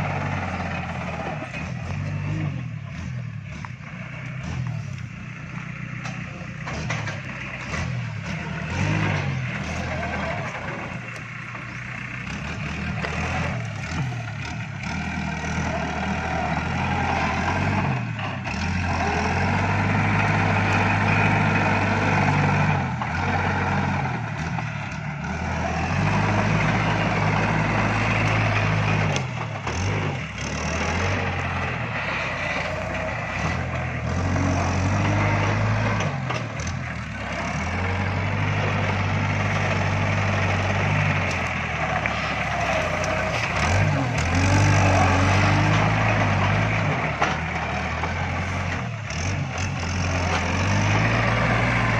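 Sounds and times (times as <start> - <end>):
tractor diesel engine revving: 0.0 - 51.9.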